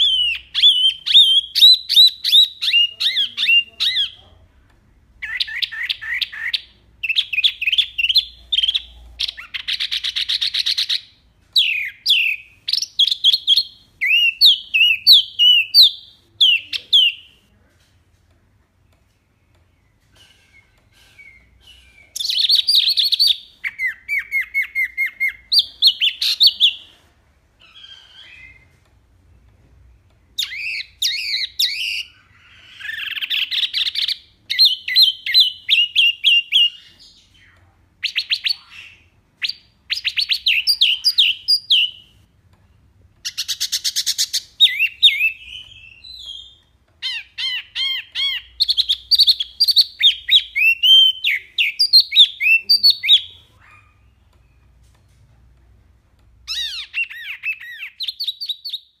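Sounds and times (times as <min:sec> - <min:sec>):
songbird singing chirps and trills: 0:00.0 - 0:59.0.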